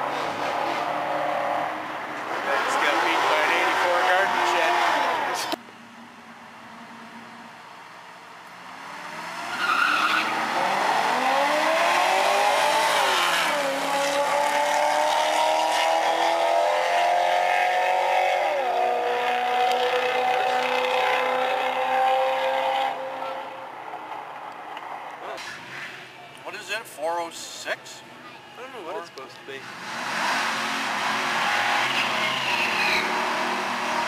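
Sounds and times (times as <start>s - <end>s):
engines revving: 0.0s - 5.6s, 8.5s - 26.2s, 28.7s - 34.0s.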